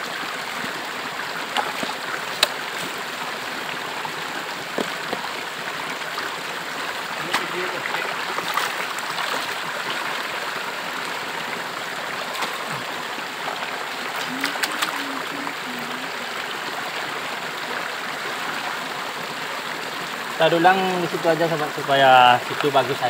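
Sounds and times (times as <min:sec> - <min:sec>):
rocky stream running: 0:00.0 - 0:23.0.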